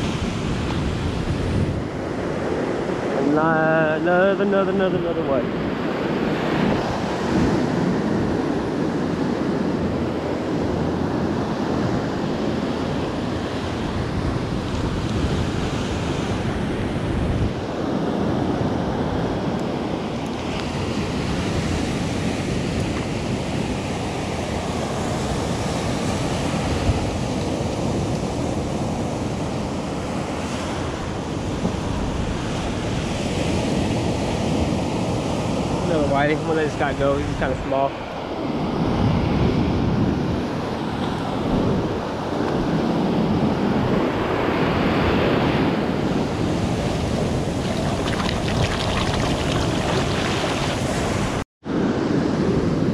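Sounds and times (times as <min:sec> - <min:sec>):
wind buffeting microphone: 0:00.0 - 0:30.0, 0:31.0 - 0:52.9
ocean surf breaking on beach: 0:00.0 - 0:52.9.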